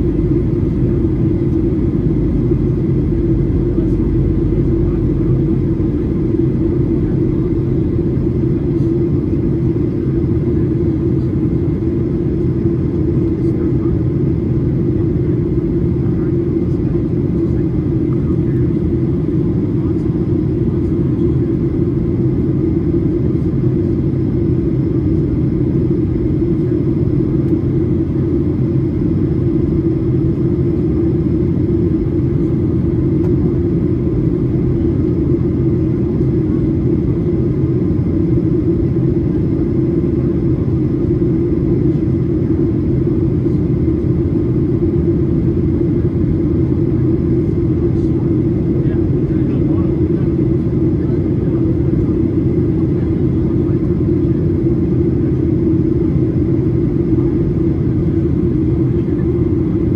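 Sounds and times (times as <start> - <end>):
airflow over fuselage: 0.0 - 59.9
jet engine rumble in cabin: 0.0 - 59.9.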